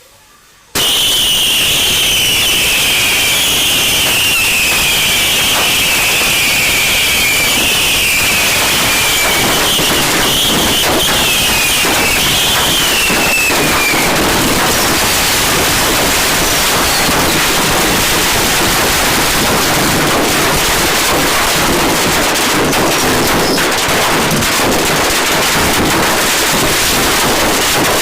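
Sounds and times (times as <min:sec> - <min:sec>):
falling firework whistle: 0:00.7 - 0:28.0
fireworks crackling and popping: 0:00.7 - 0:28.0.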